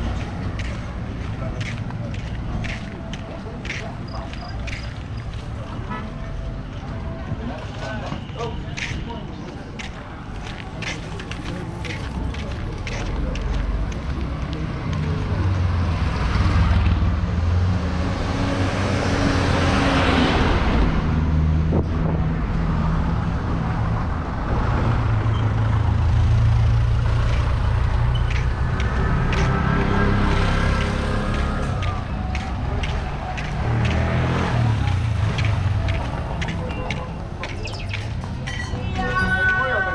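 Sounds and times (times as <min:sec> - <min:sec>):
vehicle engines droning: 0:00.0 - 0:39.9.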